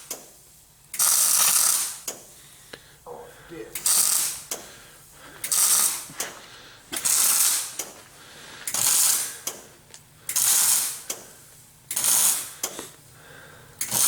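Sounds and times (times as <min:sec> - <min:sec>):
arc welding crackling: 0:00.0 - 0:02.4, 0:03.6 - 0:13.1, 0:13.8 - 0:14.0.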